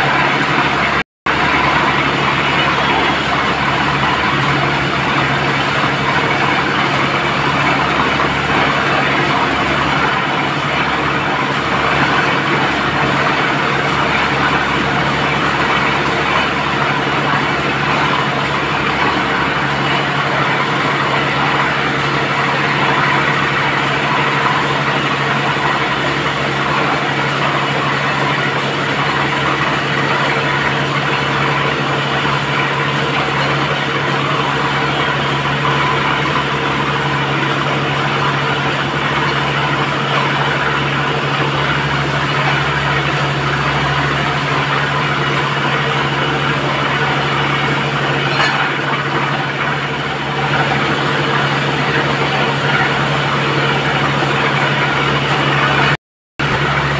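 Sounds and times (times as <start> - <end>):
drilling rig engine hum: 0.0 - 56.9
water gushing and splashing: 0.0 - 56.9.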